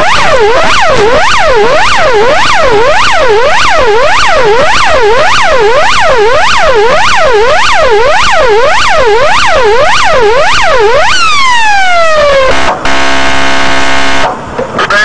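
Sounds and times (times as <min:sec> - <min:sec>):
police siren yelp: 0:00.0 - 0:15.0.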